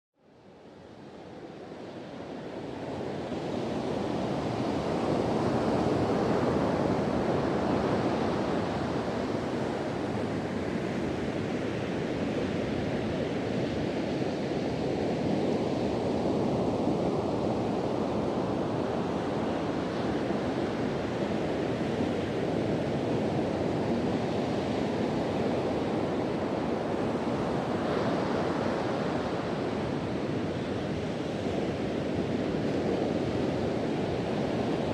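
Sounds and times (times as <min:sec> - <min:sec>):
wind blowing over microphone: 0:00.8 - 0:34.9.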